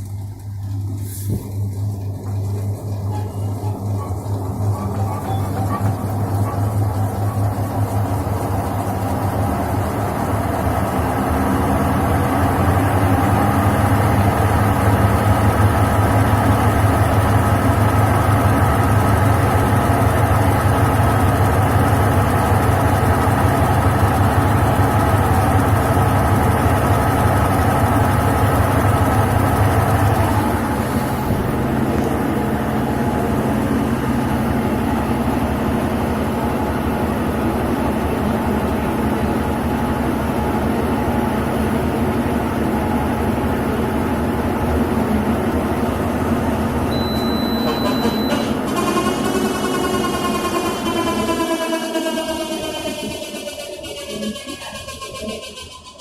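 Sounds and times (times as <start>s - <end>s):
washing machine spin cycle: 0.0s - 56.0s.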